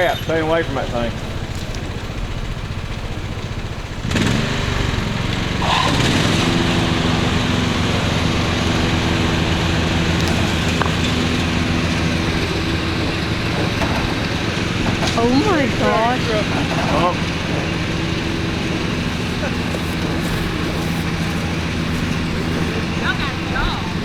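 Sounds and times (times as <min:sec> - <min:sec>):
engine running and revving: 0:00.0 - 0:24.0.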